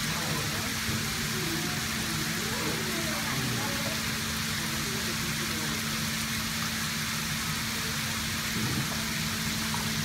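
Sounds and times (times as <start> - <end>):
water rushing over gates: 0.0 - 10.0.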